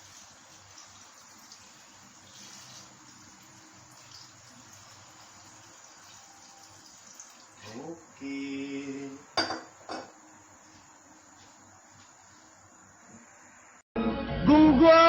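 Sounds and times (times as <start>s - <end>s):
soup simmering hiss: 0.0s - 13.8s.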